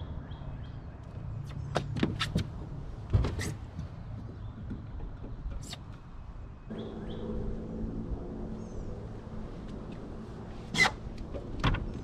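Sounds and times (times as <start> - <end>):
distant engine hum: 0.7 - 12.0.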